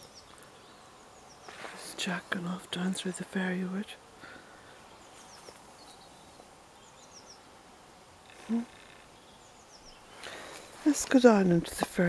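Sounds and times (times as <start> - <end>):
faint songbird chirps: 0.0 - 11.0.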